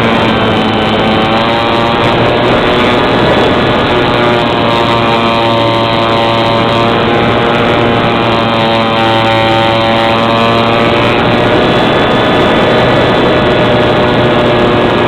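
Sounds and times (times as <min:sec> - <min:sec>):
small engine droning: 0:00.0 - 0:15.0.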